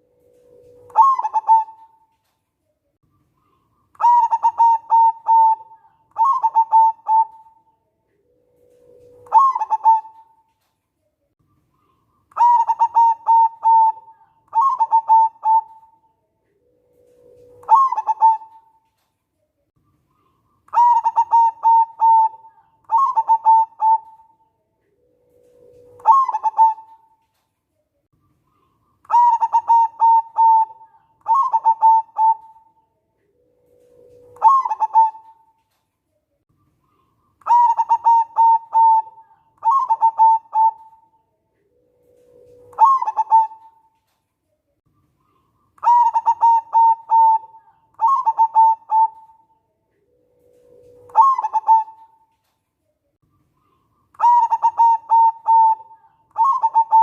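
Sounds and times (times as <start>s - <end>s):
dove cooing: 0.0s - 2.1s, 3.4s - 10.6s, 11.7s - 19.0s, 20.2s - 27.4s, 28.4s - 35.8s, 36.7s - 44.1s, 45.2s - 52.5s, 53.6s - 57.0s.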